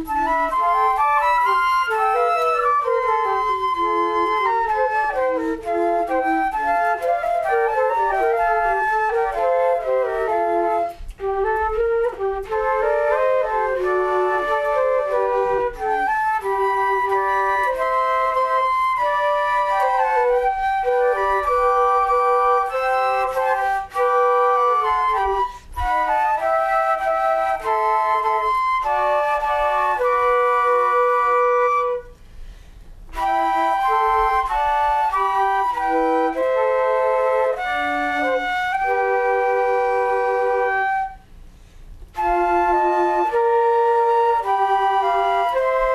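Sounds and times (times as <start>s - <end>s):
instrumental flute music: 0.0s - 45.9s.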